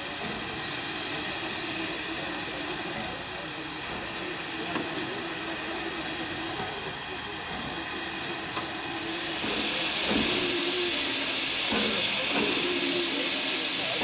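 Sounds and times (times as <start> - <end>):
steam hissing from locomotive: 0.0 - 14.0.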